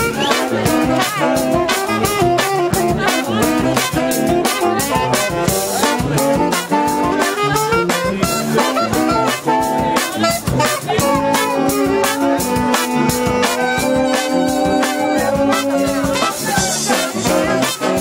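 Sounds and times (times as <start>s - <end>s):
brass band playing jazzy tune: 0.0s - 18.0s
drum and cymbal beat: 0.0s - 18.0s.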